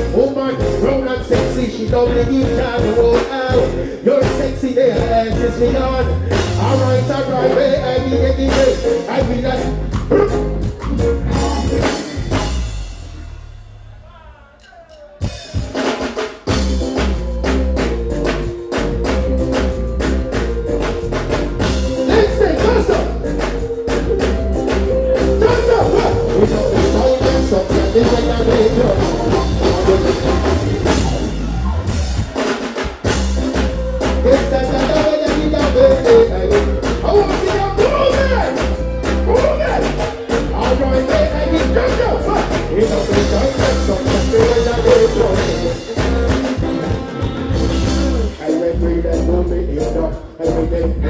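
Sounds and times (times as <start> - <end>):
live reggae band: 0.0 - 51.0.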